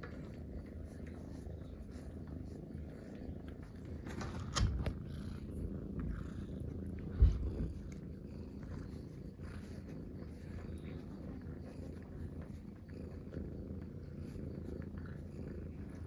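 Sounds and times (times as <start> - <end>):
cats purring: 0.0 - 16.0.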